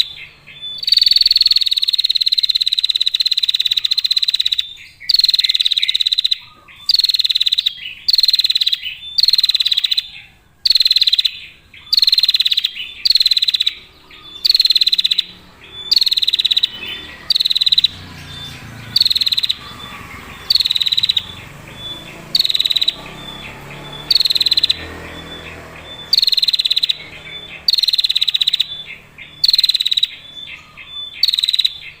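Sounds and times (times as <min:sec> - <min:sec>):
bird trilling call: 0:00.0 - 0:32.0.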